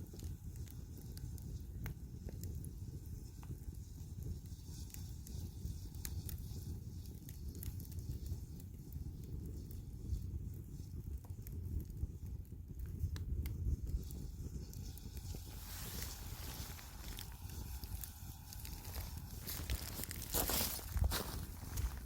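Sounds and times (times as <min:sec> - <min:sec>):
campfire crackling and popping: 0:00.0 - 0:22.0
low fire rumble: 0:00.0 - 0:22.0.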